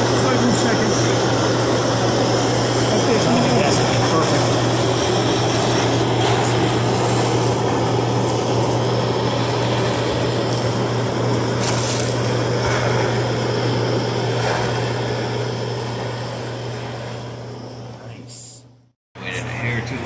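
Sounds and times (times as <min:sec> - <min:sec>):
low hum: 0:00.0 - 0:20.0
propane torch roaring hiss: 0:00.0 - 0:20.0.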